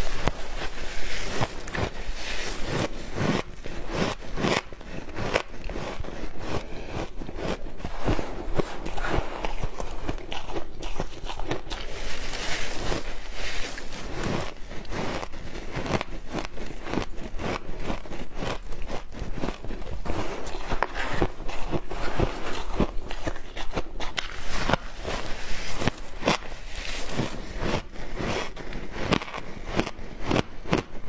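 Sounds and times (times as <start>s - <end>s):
hands crunching shaved ice: 0.0s - 31.0s
teeth biting ice: 2.8s - 12.1s, 13.7s - 31.0s.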